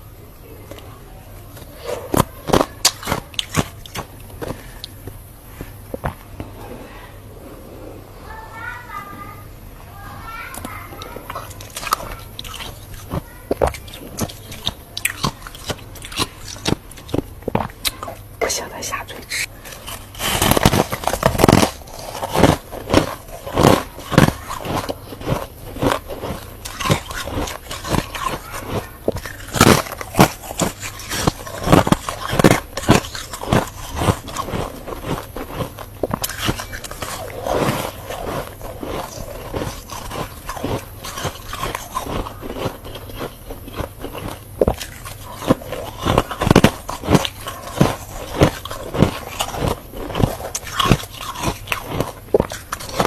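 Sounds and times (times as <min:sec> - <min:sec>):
frost crunching when chewed: 0:00.6 - 0:07.2, 0:10.0 - 0:53.0.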